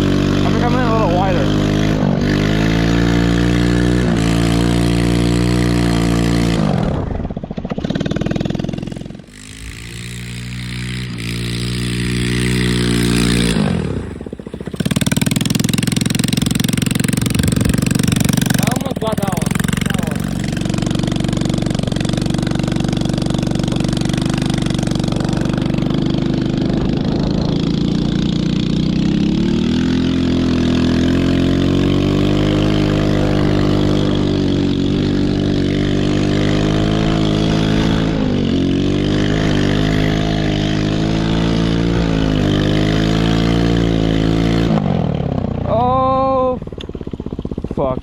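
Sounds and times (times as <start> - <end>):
small four-stroke engine revving: 0.0 - 48.0.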